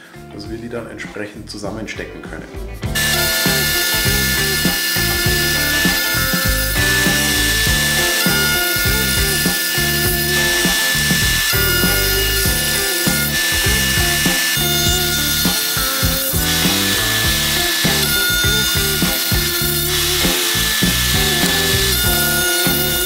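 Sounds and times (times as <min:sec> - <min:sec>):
background music: 0:00.0 - 0:23.0
router whining: 0:03.0 - 0:23.0.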